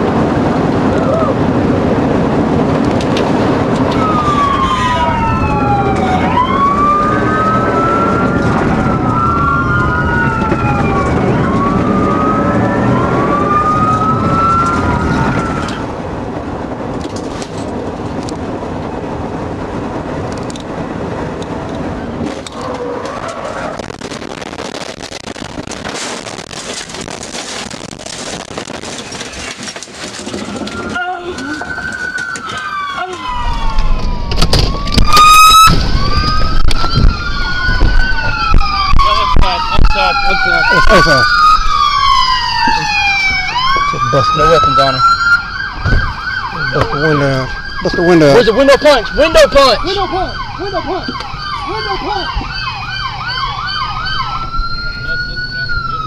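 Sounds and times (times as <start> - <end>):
police siren wailing: 0.0 - 17.8, 19.4 - 56.0
vehicle road and engine noise: 0.0 - 56.0.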